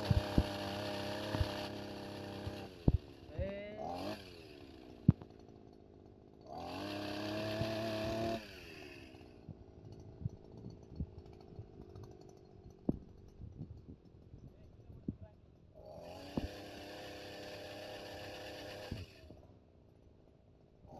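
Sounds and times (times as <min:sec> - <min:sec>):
brush cutter engine revving: 0:00.0 - 0:13.2, 0:15.8 - 0:19.4.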